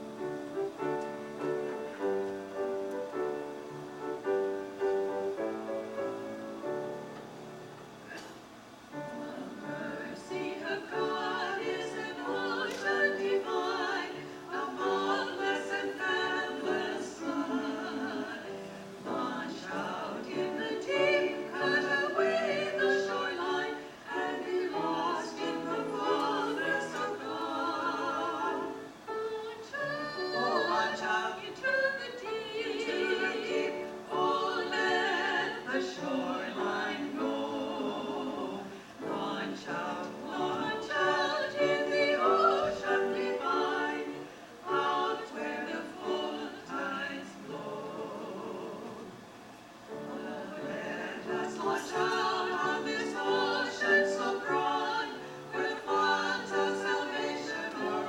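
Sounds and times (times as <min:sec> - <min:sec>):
choir singing: 0:00.0 - 0:07.1, 0:08.9 - 0:58.0.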